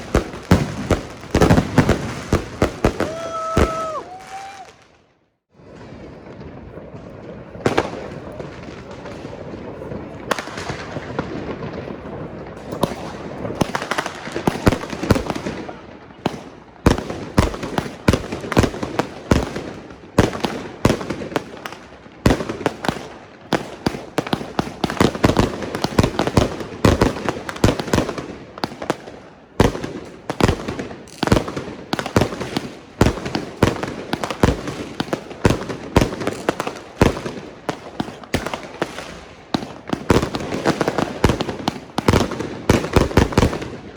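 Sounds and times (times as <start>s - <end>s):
firecrackers crackling: 0.0s - 43.9s
fireworks bangs: 0.0s - 43.9s.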